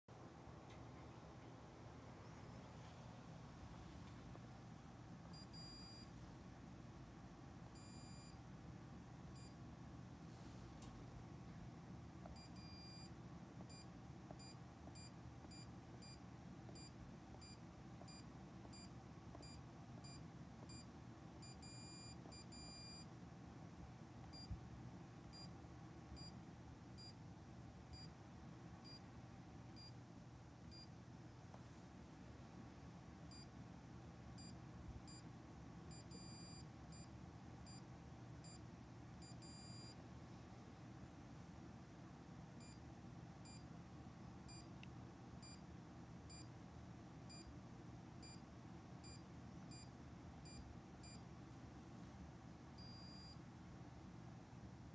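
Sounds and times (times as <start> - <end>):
low steady hum: 0.1 - 54.9.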